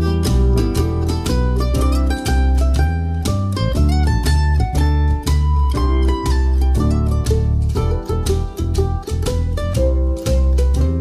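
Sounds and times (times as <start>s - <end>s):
melody over strong bass line: 0.0s - 11.0s.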